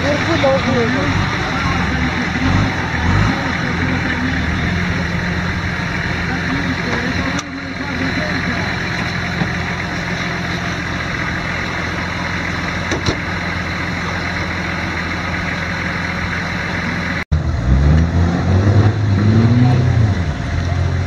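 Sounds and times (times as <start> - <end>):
engine idling: 0.0 - 17.6
engine revving in mud: 0.0 - 21.0.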